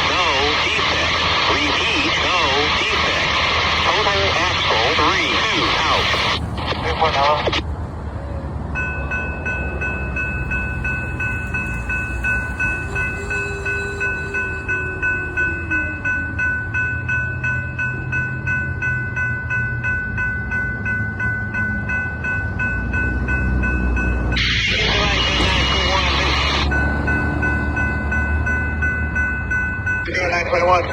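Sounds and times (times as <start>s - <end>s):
crossing warning bell ringing: 0.0s - 7.6s, 8.7s - 30.9s
train rumble: 0.0s - 30.9s.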